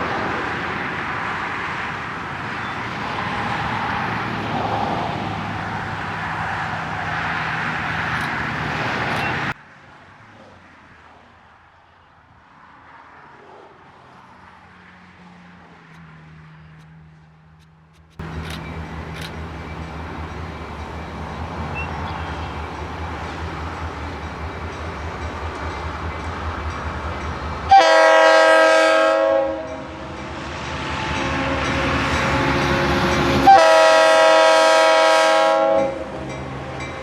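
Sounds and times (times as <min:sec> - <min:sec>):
freight train rolling past: 0:00.0 - 0:09.6, 0:12.7 - 0:37.0.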